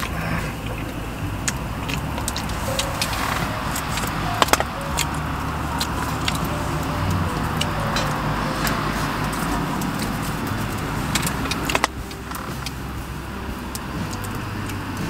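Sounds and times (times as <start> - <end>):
road traffic rumble: 0.0 - 15.0
wood fire crackling and popping: 0.0 - 15.0.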